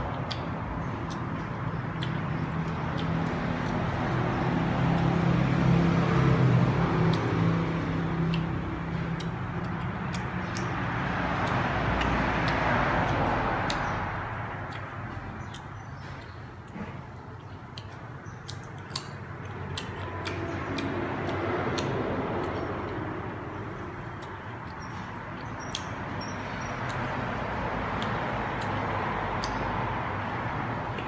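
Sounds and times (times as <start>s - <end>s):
biting and chewing crisp fruit: 0.0s - 31.0s
vehicle passing by: 0.0s - 31.0s.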